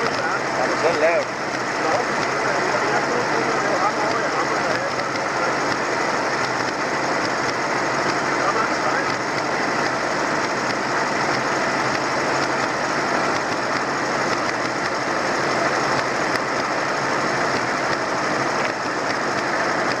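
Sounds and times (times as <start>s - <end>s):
mechanical clatter: 0.0s - 20.0s
tractor engines running: 0.0s - 20.0s.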